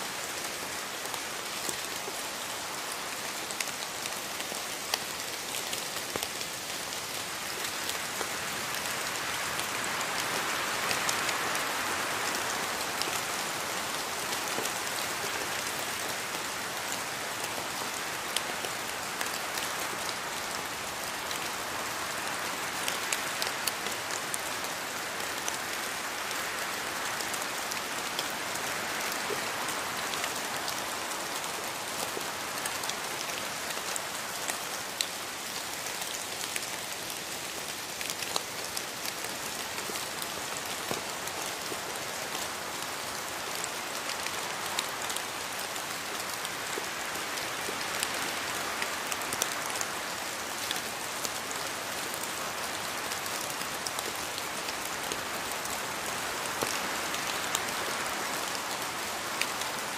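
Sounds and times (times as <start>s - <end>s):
raindrops ticking on leaves: 0.0s - 59.9s
steady rainfall in a forest: 0.0s - 59.9s.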